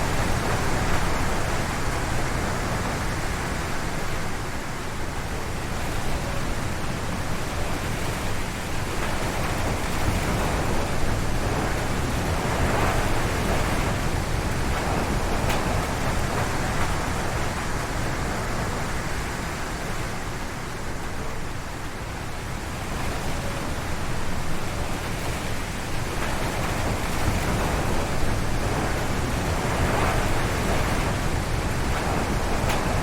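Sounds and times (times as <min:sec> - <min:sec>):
strong wind gusting through trees: 0:00.0 - 0:33.0.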